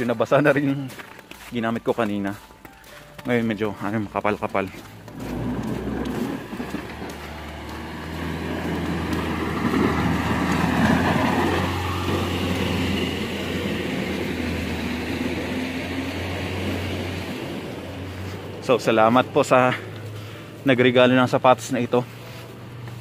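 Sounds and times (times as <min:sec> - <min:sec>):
truck engine driving past: 0:04.4 - 0:23.0.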